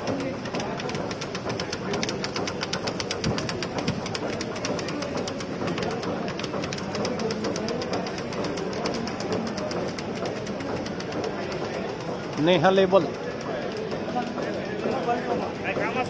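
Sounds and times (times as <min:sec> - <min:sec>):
fast even ticking: 0:00.0 - 0:16.0
machine running: 0:00.0 - 0:16.0.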